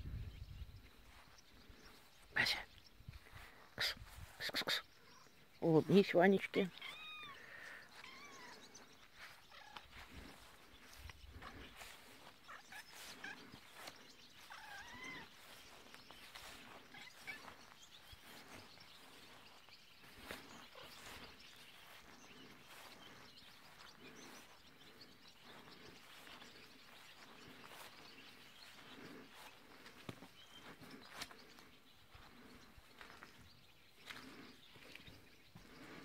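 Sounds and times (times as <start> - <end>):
faint bird chirps: 0.0 - 36.0
footsteps on grass: 3.1 - 36.0.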